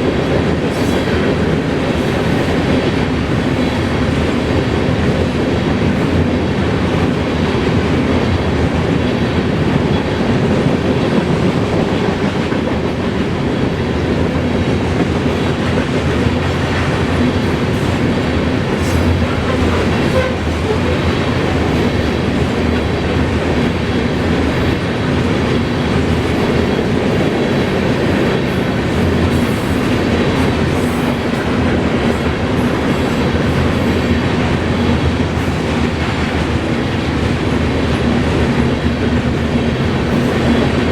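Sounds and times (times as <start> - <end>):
steel train wheels on rails: 0.0 - 40.9.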